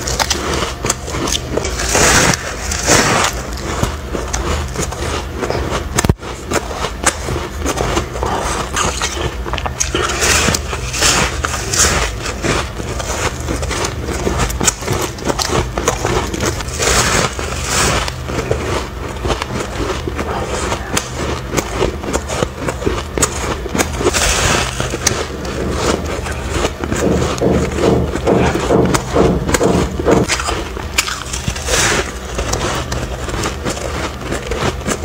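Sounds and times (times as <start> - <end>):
crunchy ice chewing: 0.0 - 35.0
steady low hum: 0.0 - 35.0.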